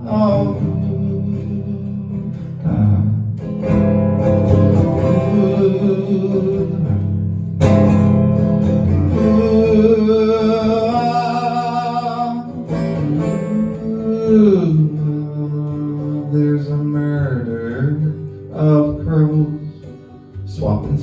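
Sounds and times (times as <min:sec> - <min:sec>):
acoustic guitar playing: 0:00.0 - 0:21.0
wordless sung vocals: 0:00.0 - 0:21.0.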